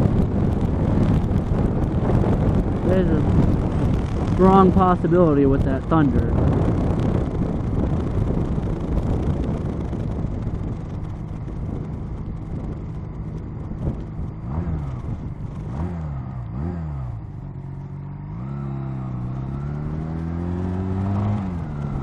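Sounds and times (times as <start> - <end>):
motorcycle engine revving: 0.0 - 22.0
wind noise: 0.0 - 22.0.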